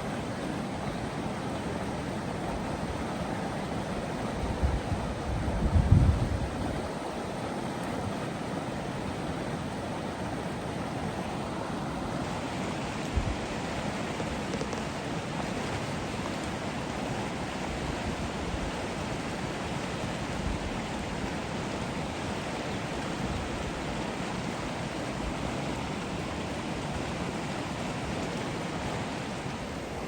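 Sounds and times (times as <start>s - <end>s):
creek rushing: 0.0s - 30.0s.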